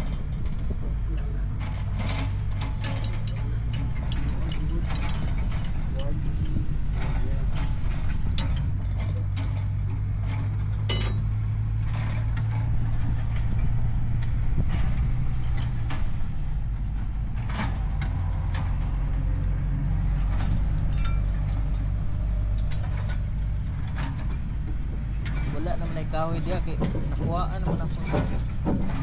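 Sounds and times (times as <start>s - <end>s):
engine running at low pitch: 0.0s - 29.0s
sharp metallic clicks and knocks: 0.0s - 29.0s.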